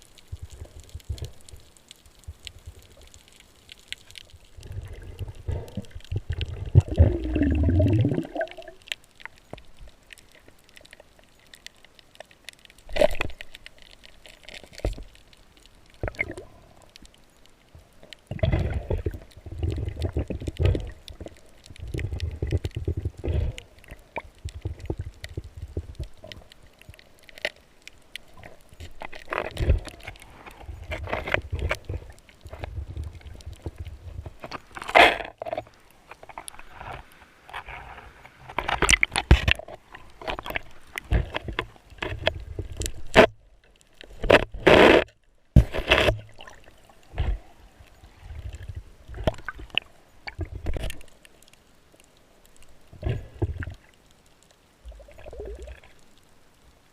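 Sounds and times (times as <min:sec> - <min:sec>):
water sloshing and gurgling: 0:00.0 - 0:56.6.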